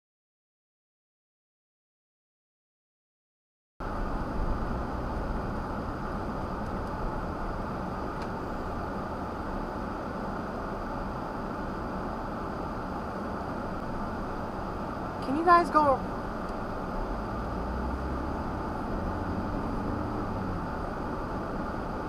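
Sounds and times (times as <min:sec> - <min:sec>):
car engine: 0:03.8 - 0:22.0
tyres on road: 0:03.8 - 0:22.0.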